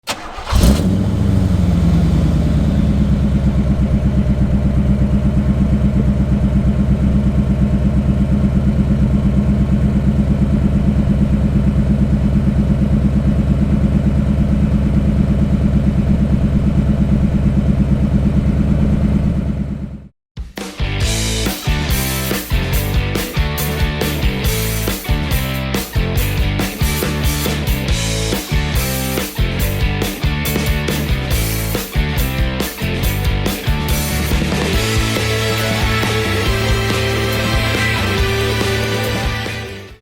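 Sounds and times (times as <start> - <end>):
car engine starting and idling: 0.0 - 20.1, 21.9 - 40.0.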